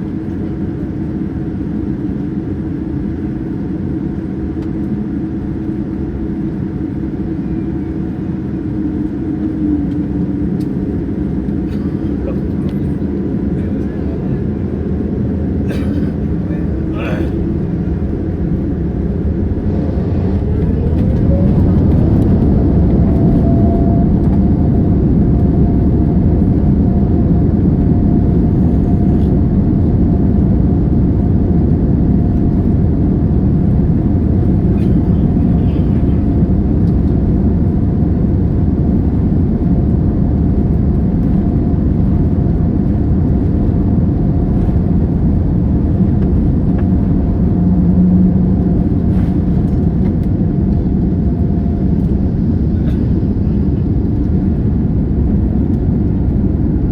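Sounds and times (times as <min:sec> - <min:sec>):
aircraft cabin engine roar: 0:00.0 - 0:56.9.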